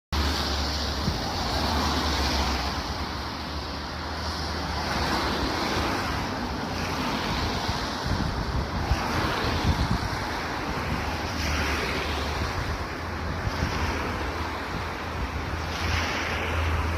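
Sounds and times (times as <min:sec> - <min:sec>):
wind rumbling on microphone: 0:00.2 - 0:16.9.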